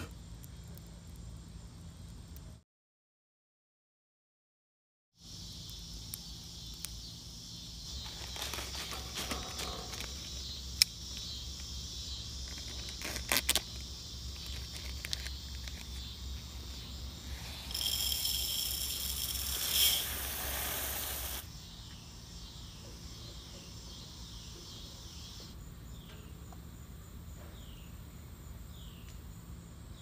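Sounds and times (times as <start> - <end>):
insects buzzing: 5.2 - 30.0.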